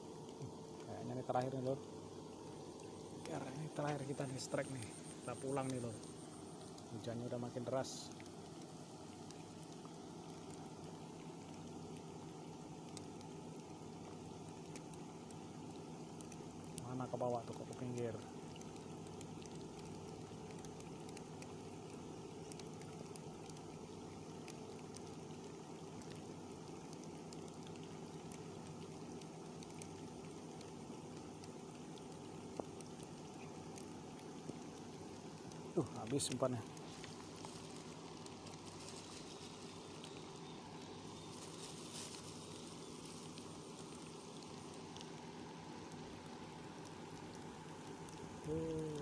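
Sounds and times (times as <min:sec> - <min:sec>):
low steady hum: 0:00.0 - 0:49.0
heavy rain on water: 0:02.6 - 0:49.0.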